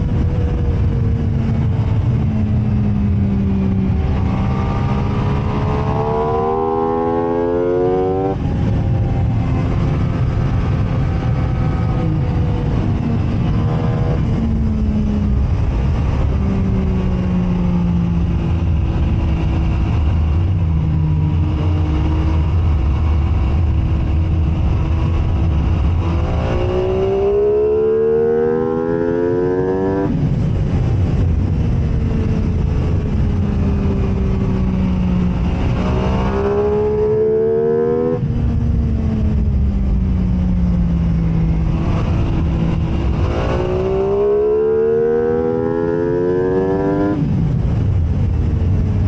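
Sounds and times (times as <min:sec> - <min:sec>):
steady low rumble: 0:00.0 - 0:07.4, 0:08.3 - 0:27.9, 0:28.5 - 0:49.0
motorcycle engine at speed: 0:00.0 - 0:49.0.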